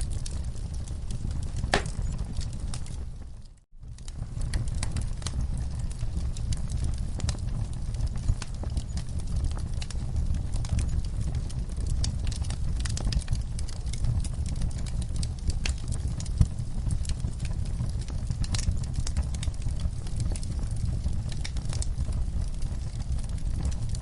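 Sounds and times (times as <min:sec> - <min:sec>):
campfire flames rumbling: 0:00.0 - 0:24.0
fire crackling and popping: 0:00.0 - 0:24.0.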